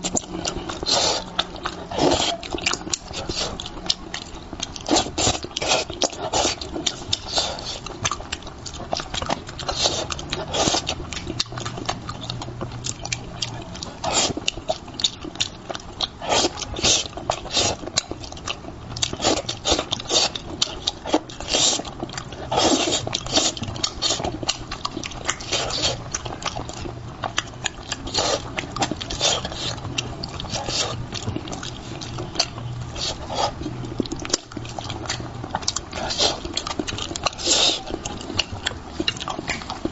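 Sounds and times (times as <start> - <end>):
faint low hum: 0.0 - 39.9
wet chewing and slurping: 0.0 - 39.9.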